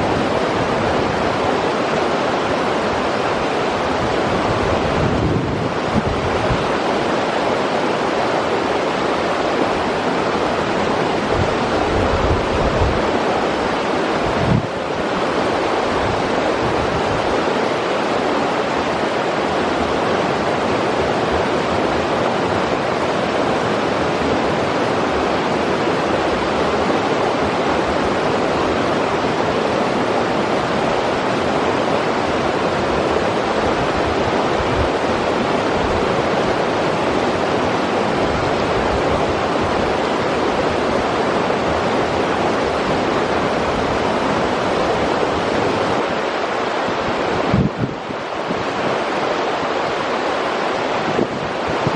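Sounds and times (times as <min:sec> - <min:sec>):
river rushing: 0:00.0 - 0:51.9.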